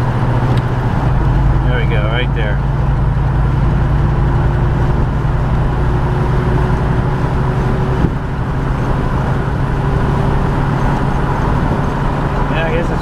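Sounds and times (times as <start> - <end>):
car engine and road drone: 0.0 - 13.0.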